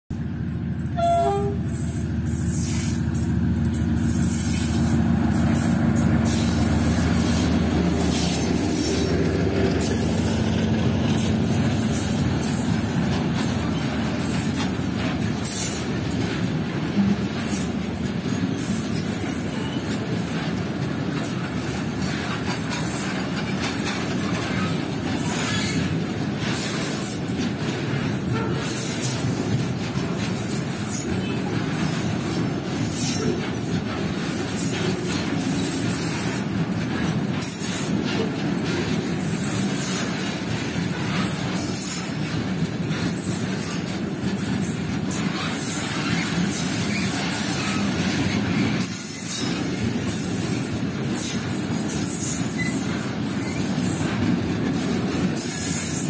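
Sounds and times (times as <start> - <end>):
locomotive engine drone: 0.1 - 51.2
train wagons rumbling: 0.1 - 56.0
wheels clattering over rail joints: 2.6 - 56.0.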